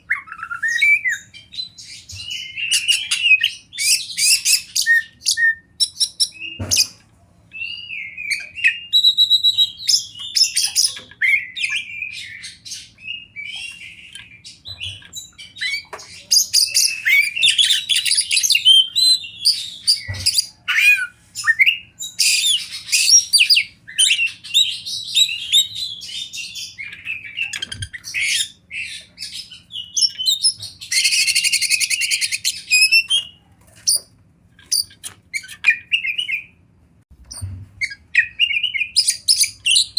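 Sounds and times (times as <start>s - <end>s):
bird singing varied song: 0.0s - 36.6s, 37.3s - 39.9s.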